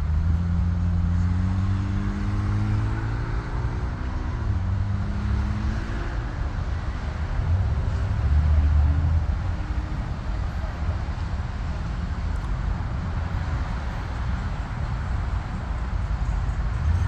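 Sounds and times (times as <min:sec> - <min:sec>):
road vehicle engine humming: 0:00.0 - 0:17.0.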